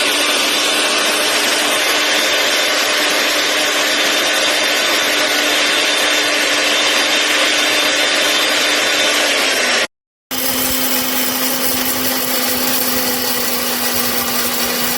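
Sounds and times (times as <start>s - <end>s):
electric grain mill motor whine: 0.0s - 14.9s.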